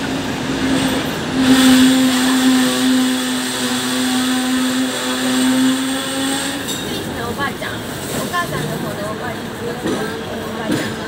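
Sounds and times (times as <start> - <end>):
tram electric motor hum: 0.0 - 11.0
tram rumble and hiss: 0.0 - 11.0.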